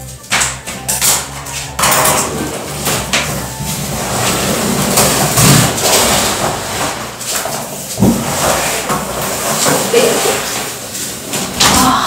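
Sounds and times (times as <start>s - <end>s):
plastic rustling: 0.0s - 12.0s
cardboard scraping: 1.5s - 11.6s.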